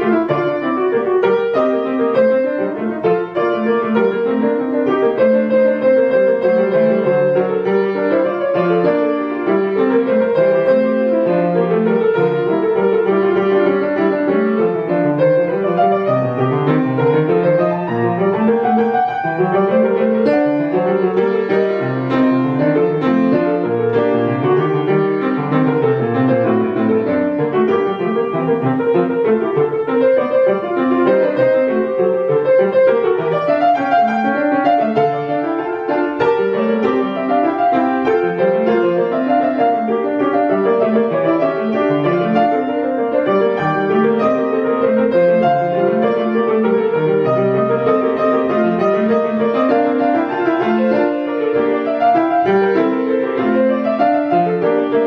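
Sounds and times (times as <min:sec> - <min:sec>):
solo classical piano: 0:00.0 - 0:55.0.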